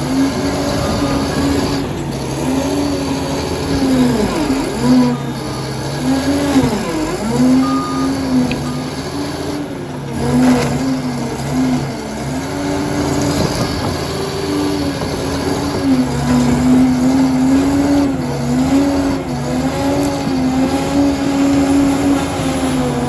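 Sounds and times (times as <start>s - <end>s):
dozer diesel engine under load: 0.0s - 23.0s.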